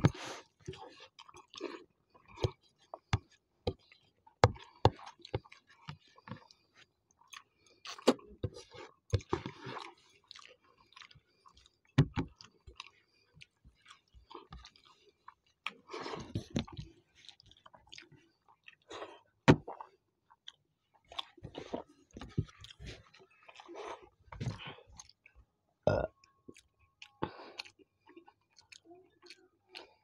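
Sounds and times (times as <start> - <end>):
people chewing with wet smacks: 0.0 - 30.0.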